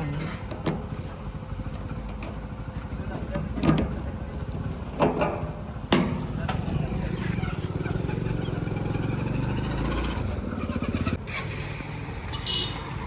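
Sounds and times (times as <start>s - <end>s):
diesel engine running: 0.0s - 12.2s.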